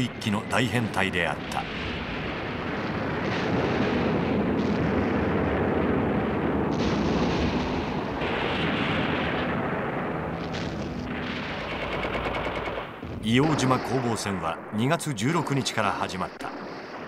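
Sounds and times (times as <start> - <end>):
rumble of explosions: 0.0 - 17.0.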